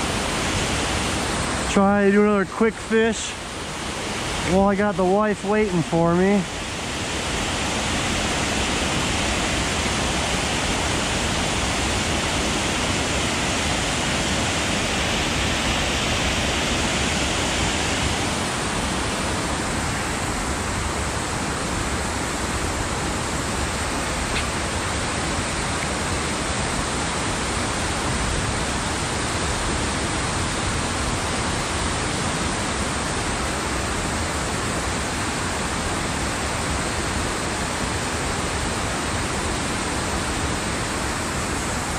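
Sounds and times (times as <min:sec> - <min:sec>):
water rushing over a spillway: 0:00.0 - 0:41.9.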